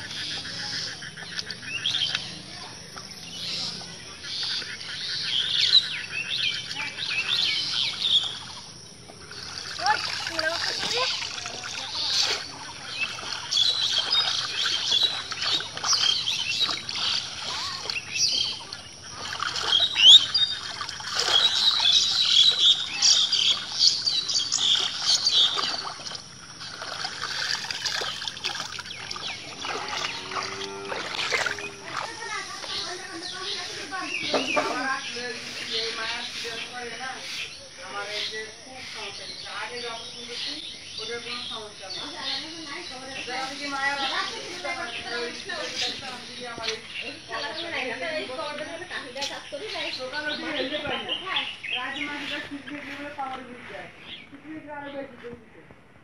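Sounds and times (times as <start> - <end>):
birds chirping: 0.0 - 55.5
water splashing and trickling: 5.4 - 54.4.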